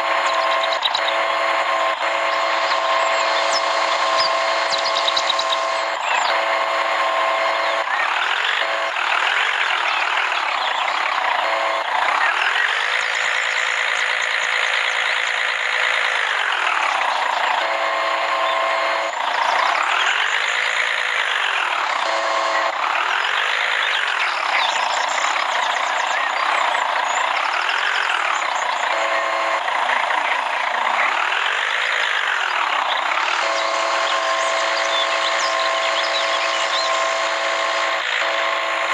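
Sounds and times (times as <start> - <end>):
crane motor whining: 0.0 - 38.9.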